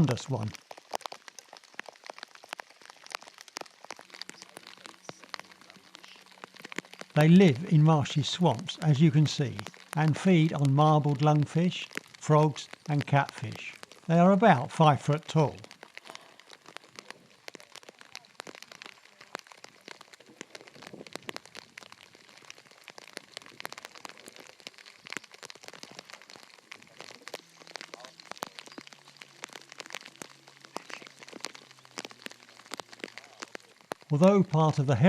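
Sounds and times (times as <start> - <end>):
plastic crinkling: 0.0 - 35.0
rain on plastic raincoat: 0.0 - 35.0.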